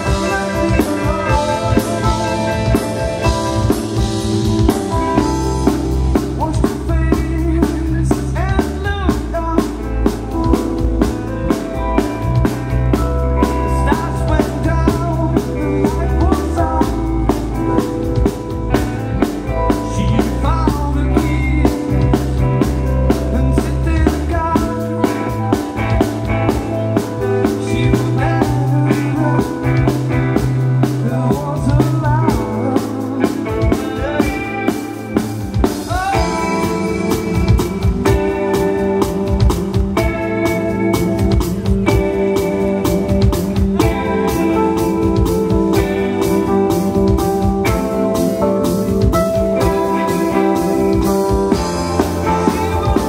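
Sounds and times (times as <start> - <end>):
band playing music: 0.0 - 53.0.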